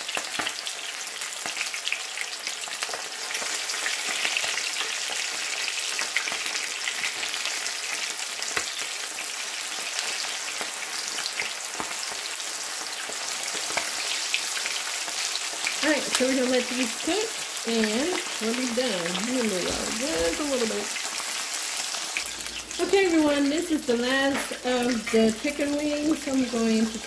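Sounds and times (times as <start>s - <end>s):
chicken frying in hot oil: 0.0s - 27.0s.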